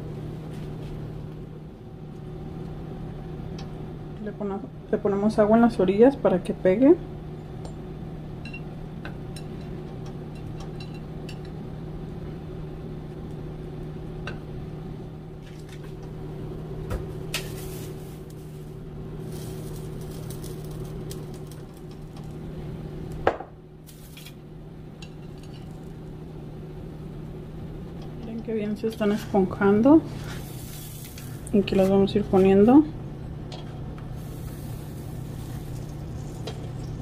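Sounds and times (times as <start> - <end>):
low kitchen hum: 0.0 - 37.0.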